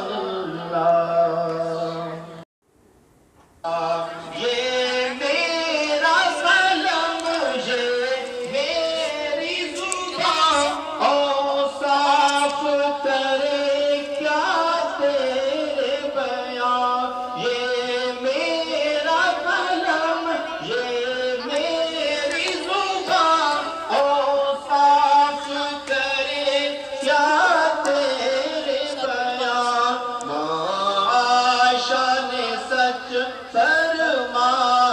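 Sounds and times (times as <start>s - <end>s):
layered singing voices: 0.0s - 2.4s, 3.6s - 34.9s.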